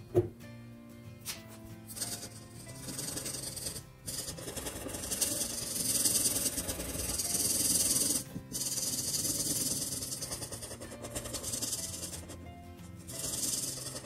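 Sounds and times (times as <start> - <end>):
marker rubbing on paper: 1.9 - 14.0.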